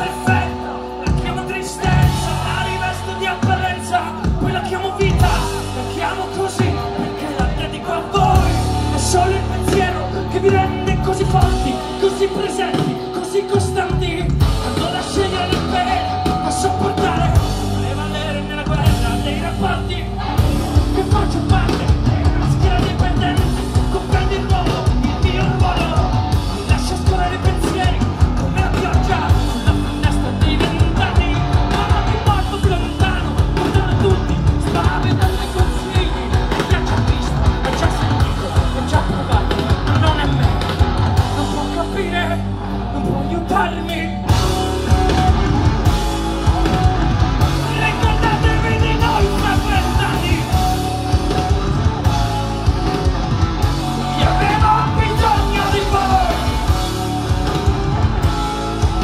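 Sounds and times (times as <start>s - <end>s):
bass guitar: 0.0s - 59.0s
drums fast driving beat: 0.0s - 59.0s
electric guitars: 0.0s - 59.0s
singer belting: 0.0s - 59.0s.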